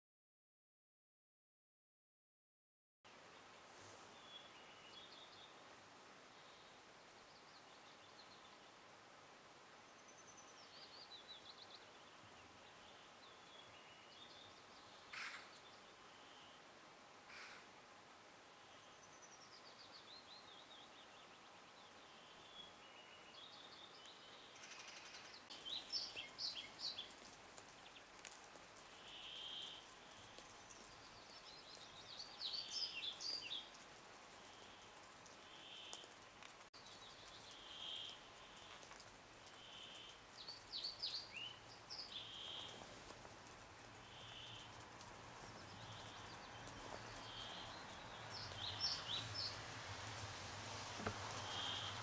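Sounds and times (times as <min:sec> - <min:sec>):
songbirds singing: 0:03.1 - 0:08.9, 0:09.7 - 0:16.7, 0:18.5 - 0:50.2, 0:50.9 - 0:52.0.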